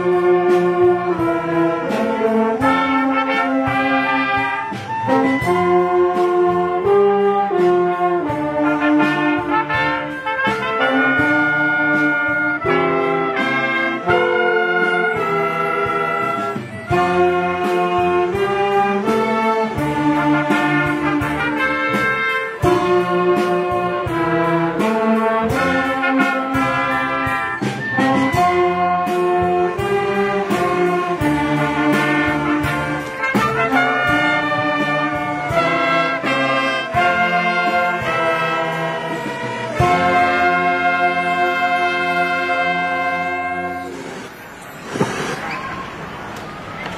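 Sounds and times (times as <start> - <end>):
trumpets playing melody: 0.0 - 44.3
band and orchestra playing: 0.0 - 46.9.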